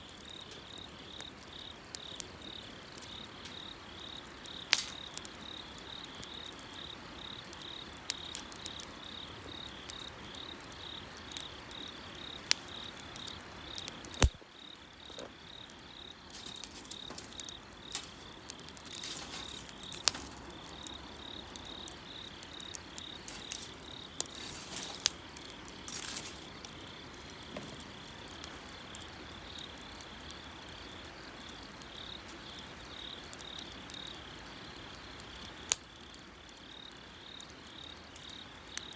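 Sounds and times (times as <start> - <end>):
bonfire crackling: 0.0 - 38.9
insects chirping: 0.0 - 38.9.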